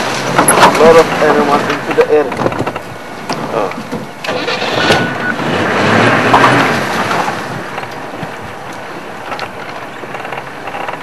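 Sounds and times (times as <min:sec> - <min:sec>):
vehicle engine rumbling: 0:00.0 - 0:11.0
wind noise on microphone: 0:01.6 - 0:11.0.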